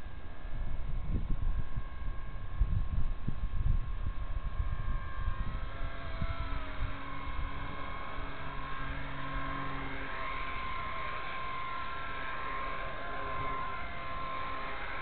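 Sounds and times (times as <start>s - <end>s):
rc helicopter rotor whine: 0.0s - 15.0s
wind buffeting microphone: 0.5s - 14.9s.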